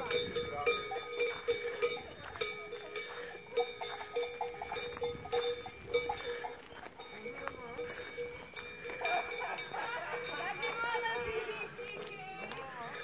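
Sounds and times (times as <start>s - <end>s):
cowbells clanging: 0.0s - 13.0s.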